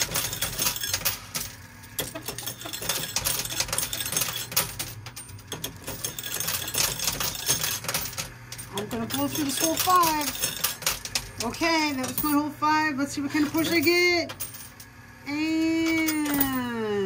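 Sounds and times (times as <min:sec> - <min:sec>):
coins clinking: 0:00.0 - 0:17.0.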